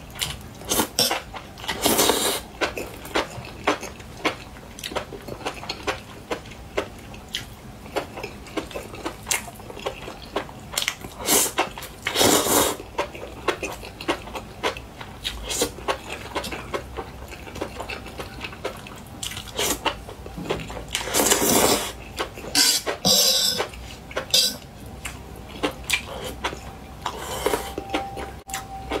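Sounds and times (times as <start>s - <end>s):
wet chewing: 0.2s - 29.0s.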